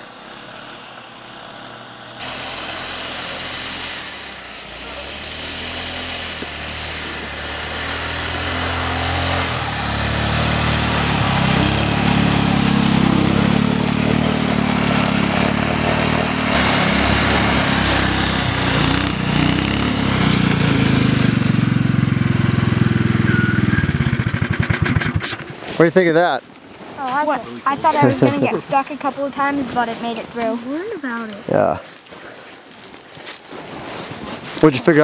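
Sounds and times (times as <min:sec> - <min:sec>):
snowmobile engine running: 0:00.0 - 0:26.2, 0:27.0 - 0:31.8.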